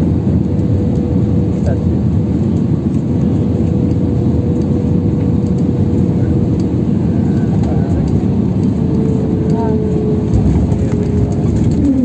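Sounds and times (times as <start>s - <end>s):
jet airliner cabin roar: 0.0s - 12.0s.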